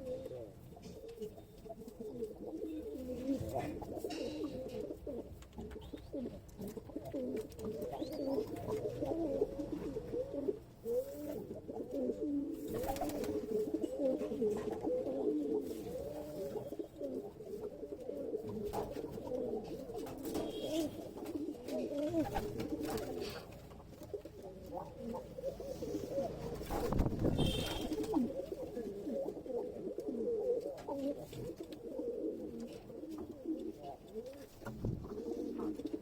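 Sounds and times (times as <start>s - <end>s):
pigeons cooing: 0.0s - 36.0s.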